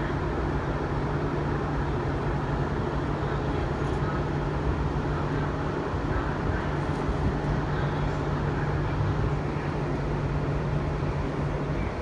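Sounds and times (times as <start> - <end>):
ferry diesel engines droning: 0.0 - 12.0.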